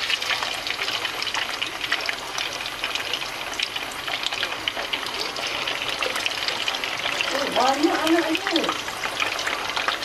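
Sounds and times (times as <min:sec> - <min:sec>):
tofu sizzling in hot oil: 0:00.0 - 0:10.0.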